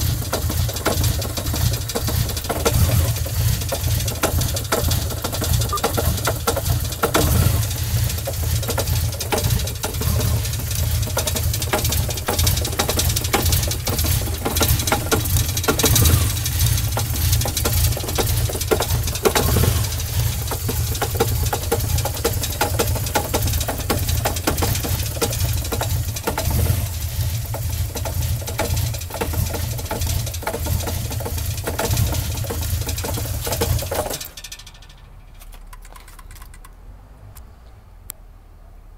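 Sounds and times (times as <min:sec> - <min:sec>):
heavy rapid engine knocking: 0:00.0 - 0:34.9
car engine idling: 0:00.0 - 0:38.1.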